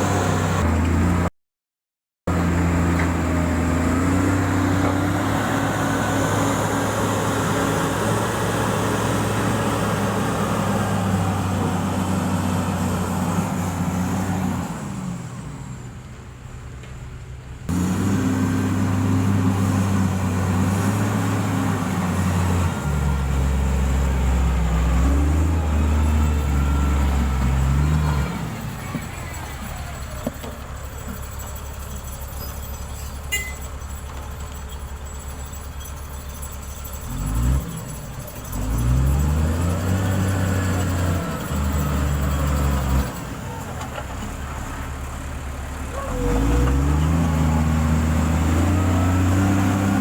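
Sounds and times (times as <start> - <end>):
diesel engine running: 2.3 - 50.0.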